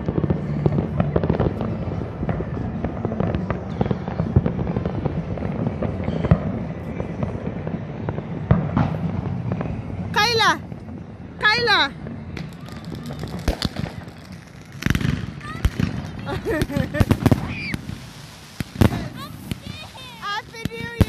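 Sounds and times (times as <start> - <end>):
firecrackers crackling: 0.0 - 21.0
firework bangs: 0.0 - 21.0.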